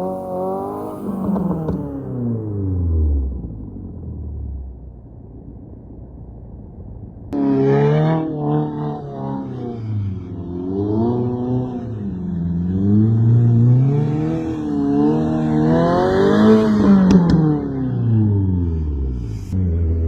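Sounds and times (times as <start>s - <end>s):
car engine revving: 0.0s - 4.8s, 7.3s - 20.0s.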